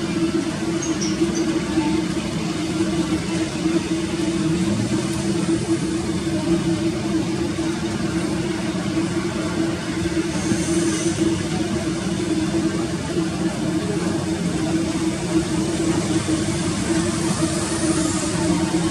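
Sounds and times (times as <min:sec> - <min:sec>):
jet engines running at low power: 0:00.0 - 0:18.9.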